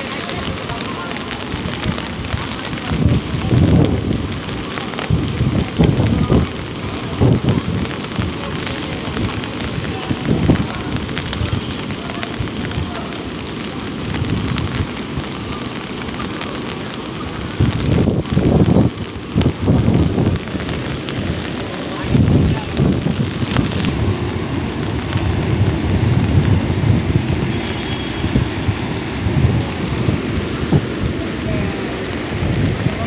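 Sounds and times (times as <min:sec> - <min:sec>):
low rumbling surges: 0:00.0 - 0:33.0.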